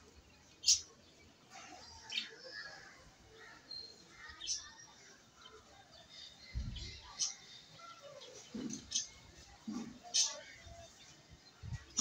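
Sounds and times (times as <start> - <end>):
faint voices: 0.0 - 12.0
small birds chirping: 0.0 - 12.0.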